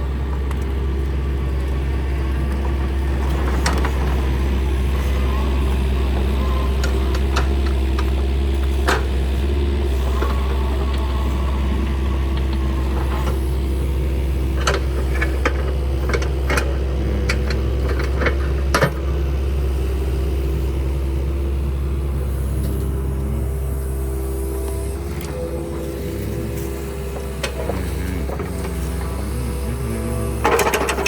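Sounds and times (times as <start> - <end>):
mini excavator diesel engine: 0.0 - 31.0.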